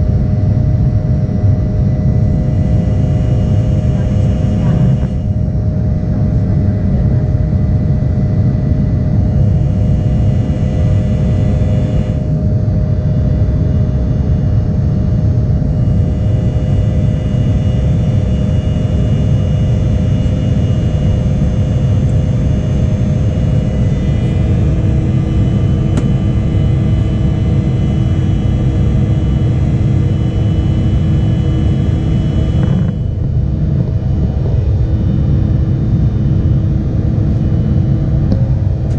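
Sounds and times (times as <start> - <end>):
jet engine and airflow rumble: 0.0 - 38.9
steady hum and higher whine: 0.0 - 38.9
steady whining tones: 0.0 - 38.9.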